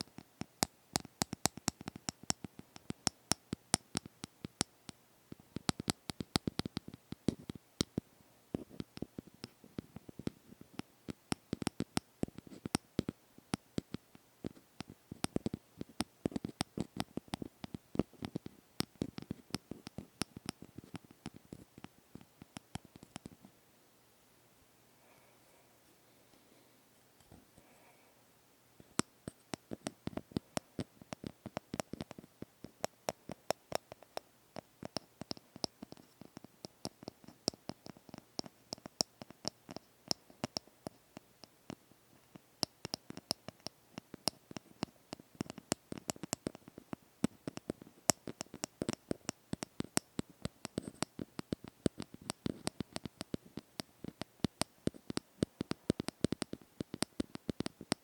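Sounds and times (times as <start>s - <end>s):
light sharp tapping: 0.0s - 23.4s, 28.8s - 58.0s.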